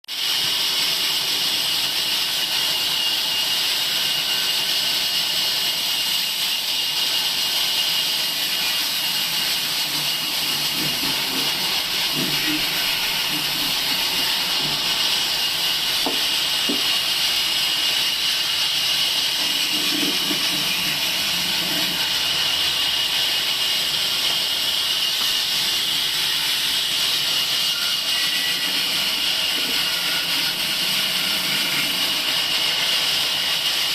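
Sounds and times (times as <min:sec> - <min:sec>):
sawmill running: 0:00.1 - 0:33.9.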